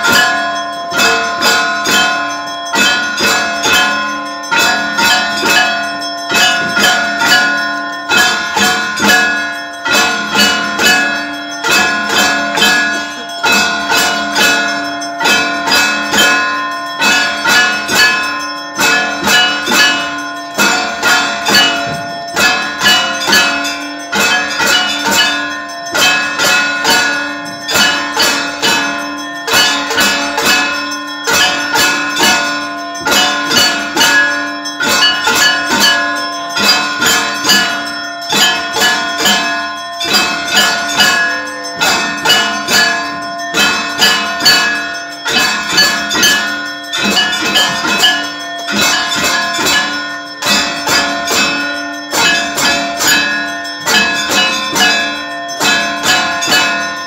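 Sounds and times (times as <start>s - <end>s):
bells struck in rhythm: 0.0s - 57.0s.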